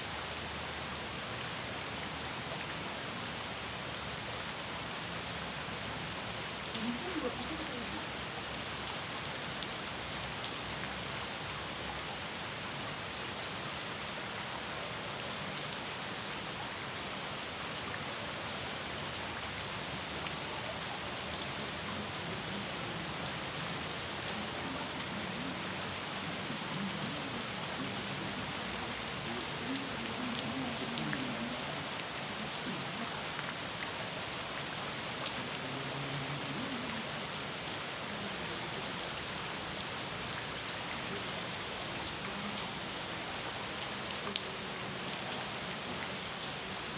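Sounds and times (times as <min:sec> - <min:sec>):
rain falling on a pond: 0:00.0 - 0:46.9.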